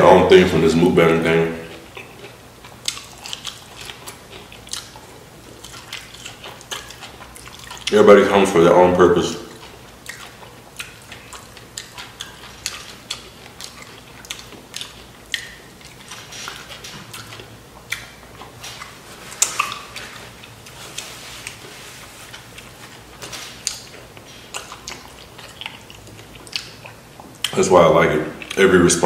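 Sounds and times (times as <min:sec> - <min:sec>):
crunchy chewing: 0:01.6 - 0:28.9.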